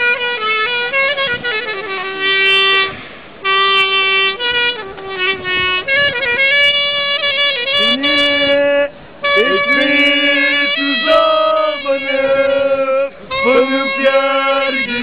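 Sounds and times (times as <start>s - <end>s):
wind instrument melody: 0.0s - 15.0s.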